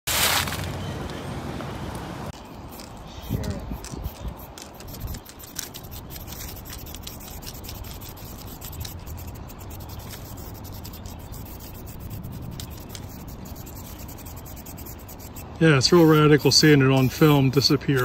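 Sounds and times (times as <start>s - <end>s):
paintbrush scrubbing tree bark: 2.7s - 18.0s.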